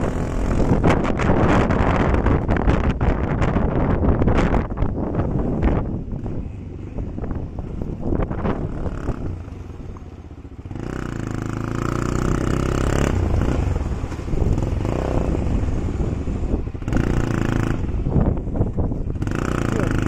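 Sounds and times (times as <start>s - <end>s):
motorcycle engine running: 0.0s - 20.0s
wind on microphone: 0.0s - 20.0s.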